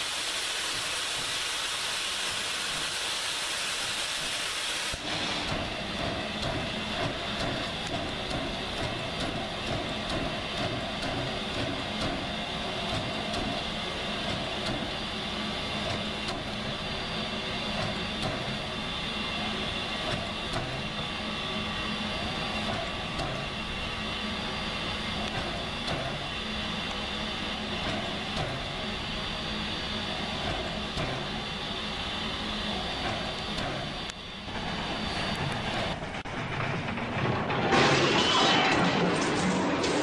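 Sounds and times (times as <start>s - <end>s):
steam hissing: 0.0s - 36.2s
steam locomotive chuffing: 0.0s - 38.0s.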